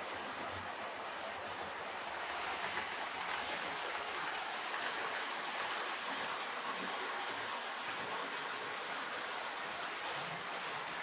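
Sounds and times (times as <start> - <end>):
model train wheels rolling on rails: 0.0 - 11.0.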